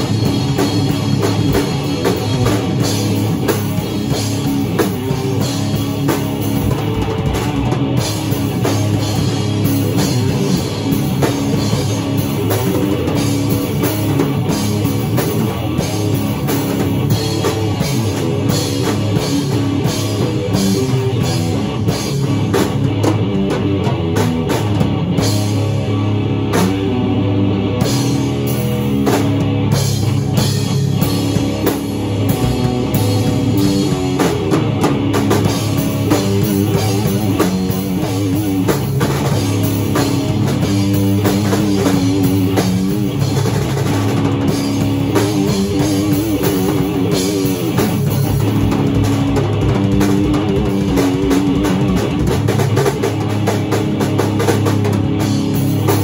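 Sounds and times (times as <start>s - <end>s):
guitar riff: 0.0s - 56.0s.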